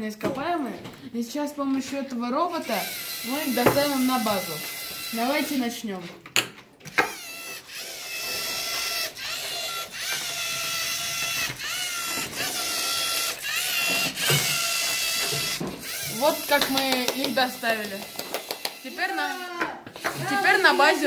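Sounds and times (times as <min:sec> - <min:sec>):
robot servo motors whining: 0:01.9 - 0:05.8, 0:06.9 - 0:21.0.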